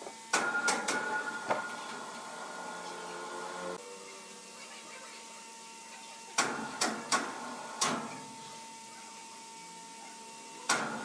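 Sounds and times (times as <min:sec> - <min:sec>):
sawmill machine hum: 0:00.0 - 0:11.0.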